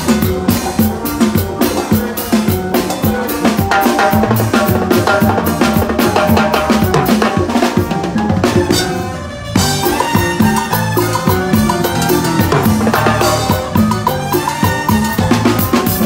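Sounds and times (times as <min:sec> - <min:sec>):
cymbals: 0:00.0 - 0:16.0
held bass notes: 0:00.0 - 0:16.0
timbales played fast: 0:00.0 - 0:16.0.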